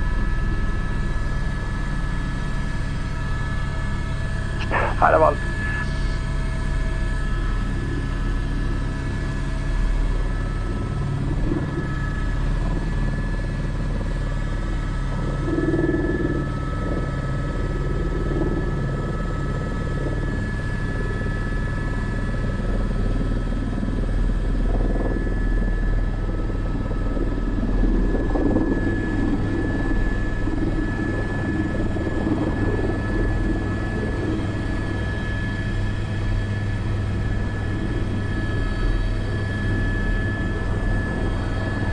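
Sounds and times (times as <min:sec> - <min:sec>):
helicopter rotor drone: 0:00.0 - 0:41.9
helicopter turbine whine: 0:00.0 - 0:41.9.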